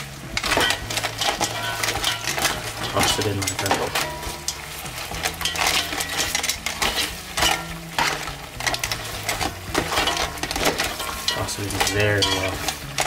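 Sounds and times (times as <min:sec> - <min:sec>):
crab shells clacking against pot: 0:00.0 - 0:13.0
wet stirring: 0:00.0 - 0:13.0.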